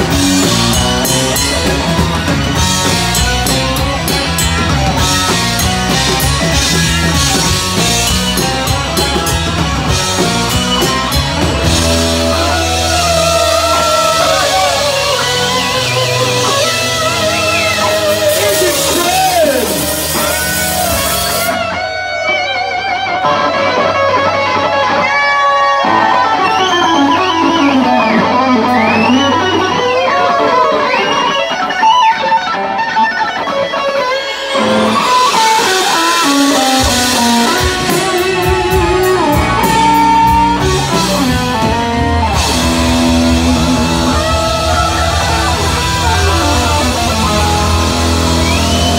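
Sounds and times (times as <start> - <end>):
electric guitar lead with bends: 0.0 - 48.9
live rock band playing: 0.0 - 48.9.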